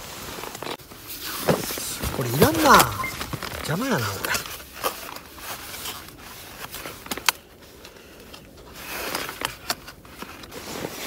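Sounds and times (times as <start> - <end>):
camping gear rustling: 0.0 - 11.0.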